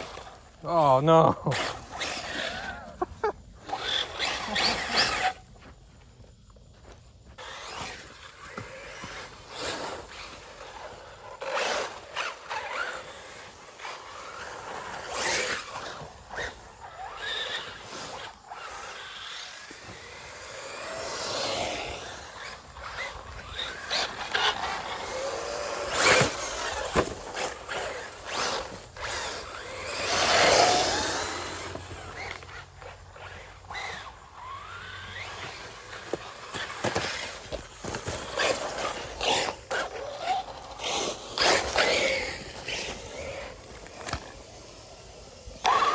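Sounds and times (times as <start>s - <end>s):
buggies knocking and scraping dirt: 0.0s - 45.9s
electric rc car motors whining: 0.0s - 45.9s.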